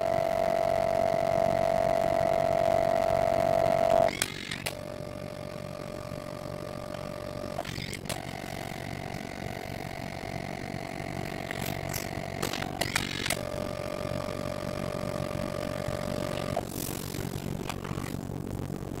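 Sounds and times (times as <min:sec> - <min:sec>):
photo printer motor whining: 0:00.0 - 0:18.2.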